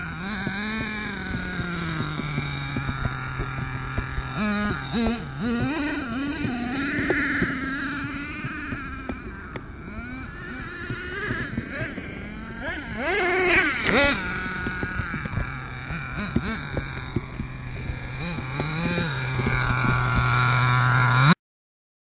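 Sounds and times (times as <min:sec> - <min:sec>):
nitro engine revving: 0:00.0 - 0:21.4.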